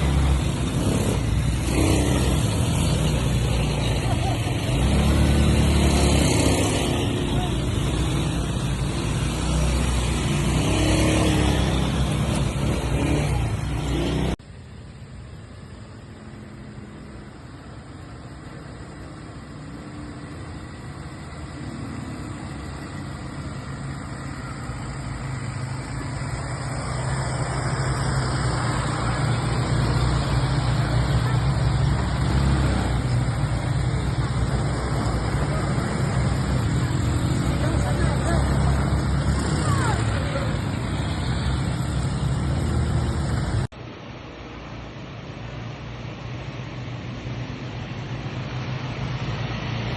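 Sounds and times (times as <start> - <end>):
atv engines running: 0.0 - 49.9.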